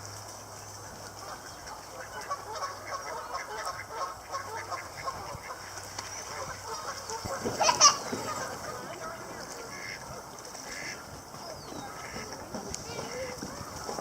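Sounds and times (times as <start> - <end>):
geese honking: 0.5 - 14.0.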